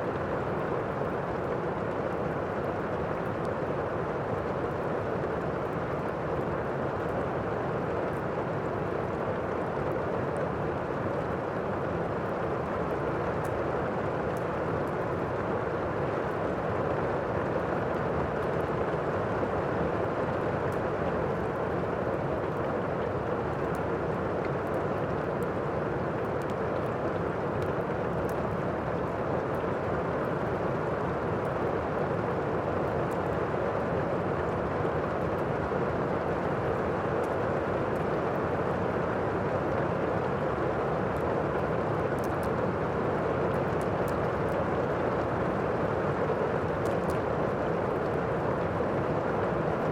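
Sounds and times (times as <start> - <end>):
steady rain: 0.0 - 49.9
fireplace fire crackling: 0.1 - 49.8.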